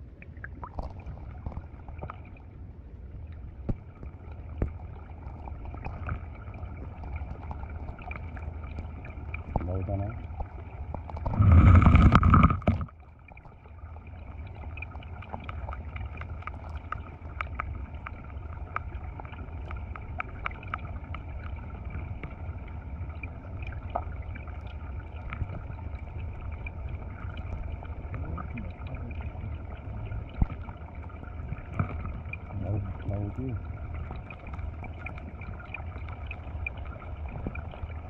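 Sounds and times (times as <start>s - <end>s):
underwater stream rumble: 0.0s - 38.0s.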